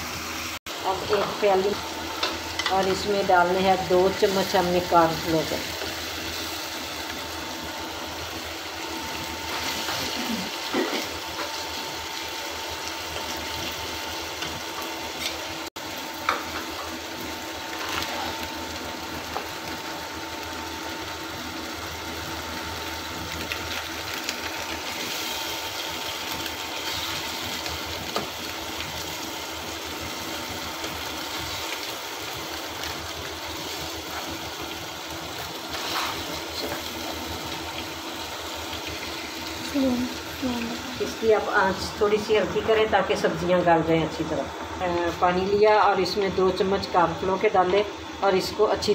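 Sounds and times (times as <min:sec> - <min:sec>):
steady mechanical hum: 0:00.0 - 0:48.9
vegetables simmering and sizzling: 0:00.0 - 0:48.9.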